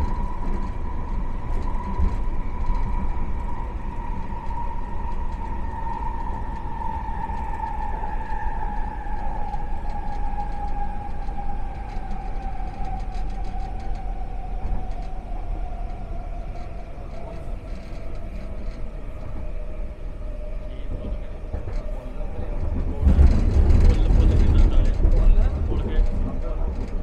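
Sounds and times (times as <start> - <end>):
low rail rumble: 0.0 - 27.0.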